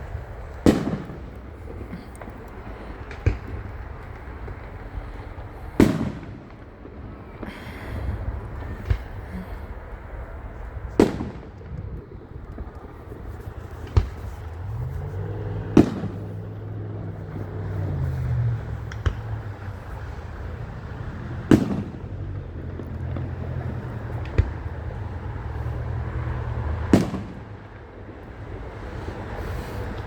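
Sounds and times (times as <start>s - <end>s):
fireworks booming: 0.0s - 30.0s.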